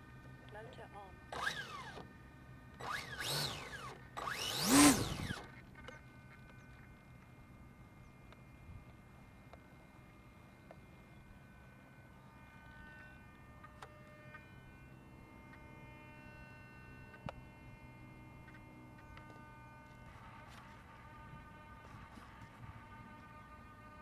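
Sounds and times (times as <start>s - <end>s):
faint electrical hum and whine: 0.0s - 24.0s.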